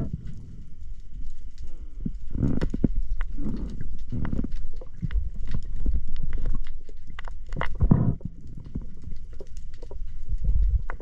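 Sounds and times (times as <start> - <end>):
low rumble of water movement: 0.0 - 11.0
small clicks and crackles: 0.0 - 11.0.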